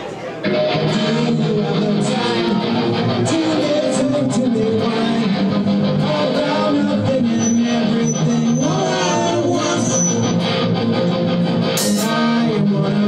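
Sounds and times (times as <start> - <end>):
electric guitar music: 0.4 - 13.0.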